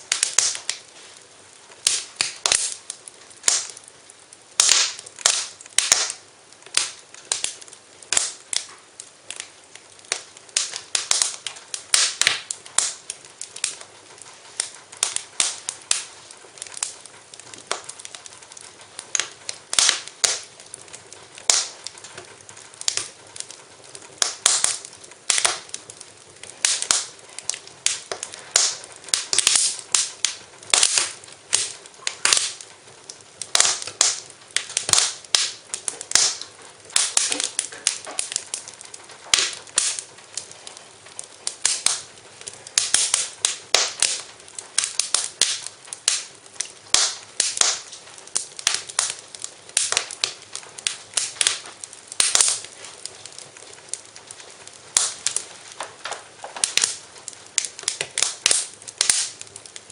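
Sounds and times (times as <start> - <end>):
faint steady hiss: 0.0 - 59.9
wood fire crackling and popping: 0.0 - 59.9.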